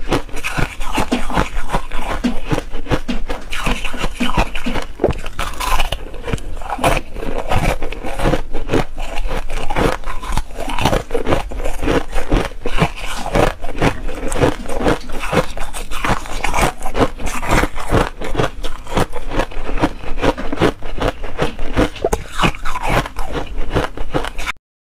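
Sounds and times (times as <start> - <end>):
ice crunching while chewed: 0.0 - 24.6.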